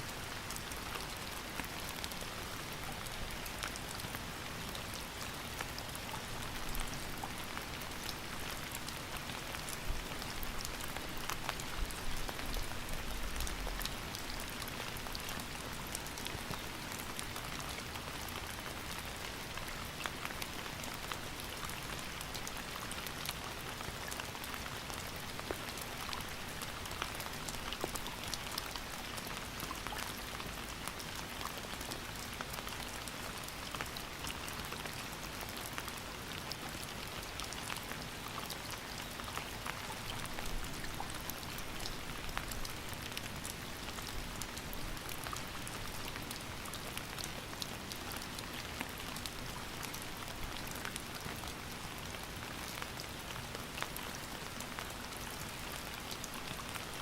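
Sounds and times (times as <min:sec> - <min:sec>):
rain pattering on hard surfaces: 0:00.0 - 0:57.0.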